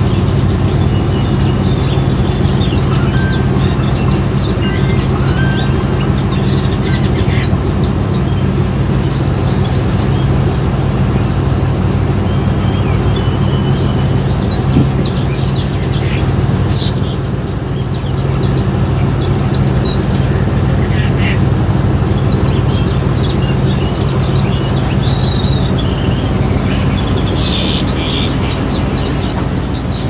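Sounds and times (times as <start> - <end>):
songbird chirping and whistling: 0.0 - 11.5, 12.1 - 21.4, 22.1 - 30.0
boat engine drone: 0.0 - 30.0.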